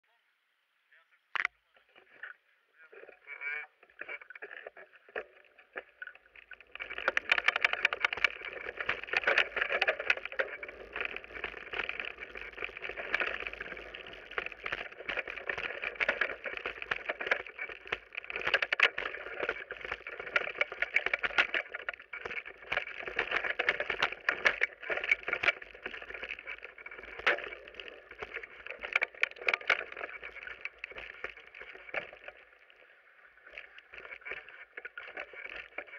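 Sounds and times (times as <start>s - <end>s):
bike rattling over rough trail: 3.9s - 35.9s.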